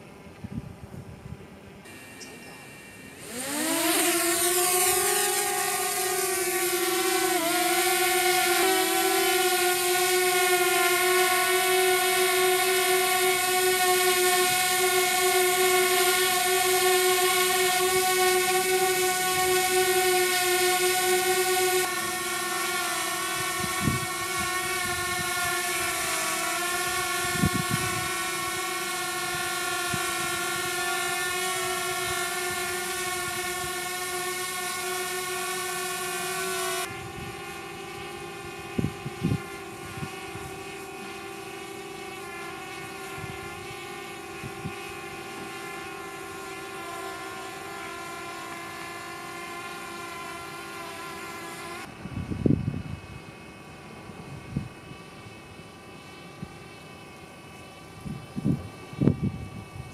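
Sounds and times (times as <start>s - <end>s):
drone propellers whining: 1.8s - 59.9s.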